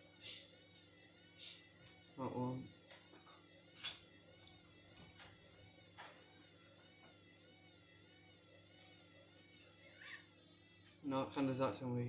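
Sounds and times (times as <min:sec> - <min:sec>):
wavering high whine: 0:00.0 - 0:12.0.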